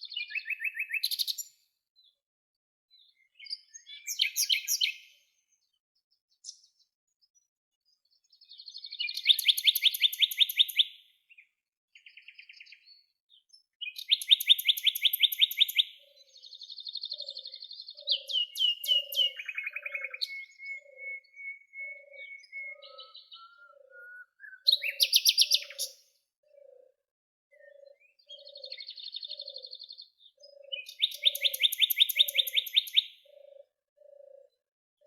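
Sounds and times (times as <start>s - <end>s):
songbirds singing: 0.0s - 2.3s, 2.9s - 35.0s.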